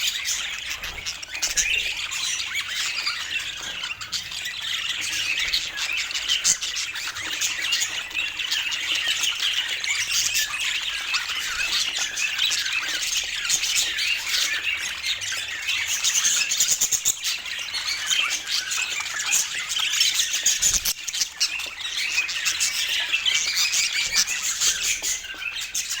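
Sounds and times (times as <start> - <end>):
budgerigars chattering and squawking: 0.0 - 26.0.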